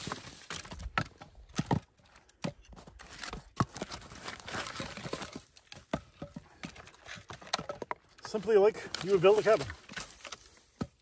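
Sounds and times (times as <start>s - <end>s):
firewood pieces knocking together: 0.0s - 11.0s
wood rustling and crunching: 0.0s - 11.0s.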